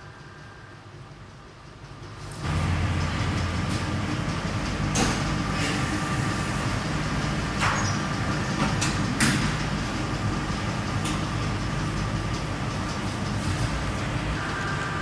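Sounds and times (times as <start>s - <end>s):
factory machine hum: 0.0s - 15.0s.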